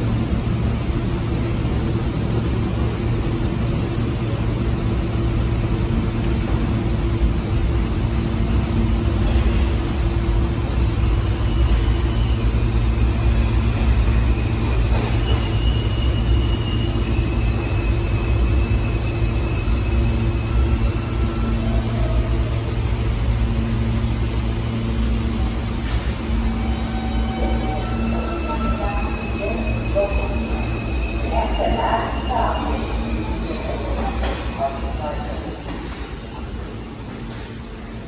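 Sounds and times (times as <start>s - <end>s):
subway train humming: 0.0s - 38.0s.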